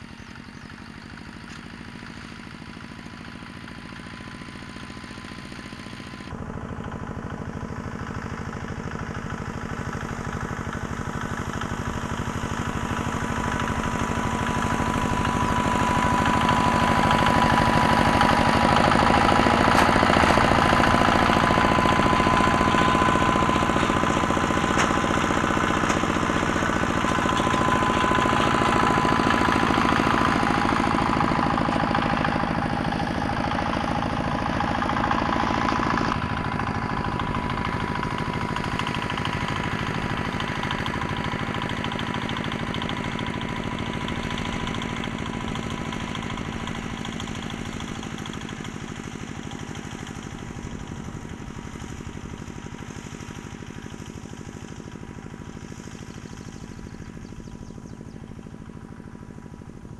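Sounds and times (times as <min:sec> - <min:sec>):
small tractor engine running: 0:00.0 - 0:59.9.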